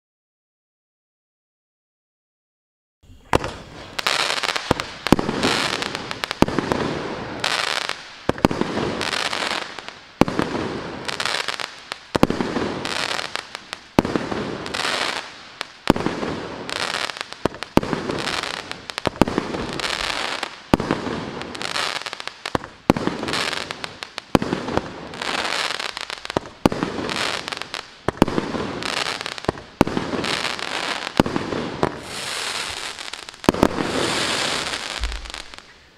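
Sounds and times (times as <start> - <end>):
firework cake bangs with hiss: 3.1 - 35.7.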